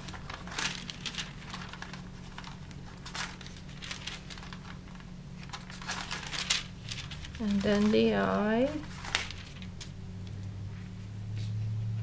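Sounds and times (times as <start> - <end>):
tracing paper rustling: 0.0 - 11.7
steady low hum: 0.0 - 12.0.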